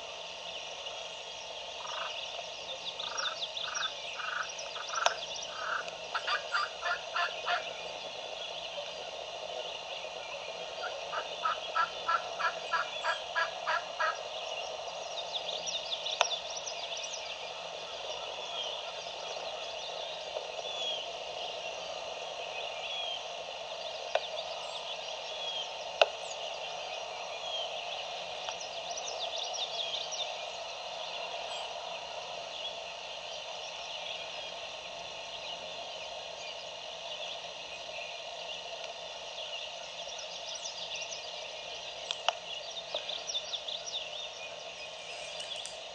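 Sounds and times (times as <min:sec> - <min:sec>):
songbirds chirping: 0:00.0 - 0:45.9
steady background hum: 0:00.0 - 0:45.9
rhythmic bird calls: 0:01.0 - 0:45.9.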